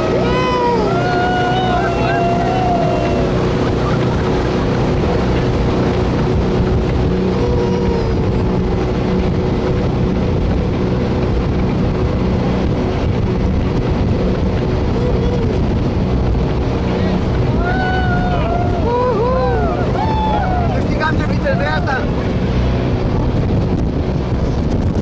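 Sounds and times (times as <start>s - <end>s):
boat engine droning: 0.0s - 25.0s
water rushing past hull: 0.0s - 25.0s.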